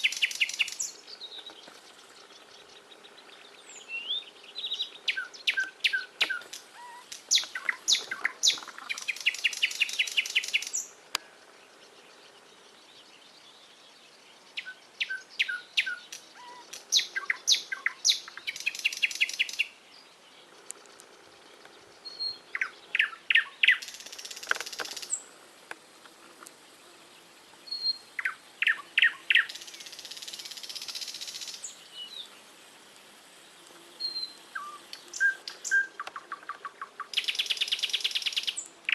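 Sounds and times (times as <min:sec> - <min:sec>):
faint bird chirps: 0:00.0 - 0:25.3, 0:27.1 - 0:32.4, 0:33.5 - 0:38.9
songbird singing: 0:00.0 - 0:38.9.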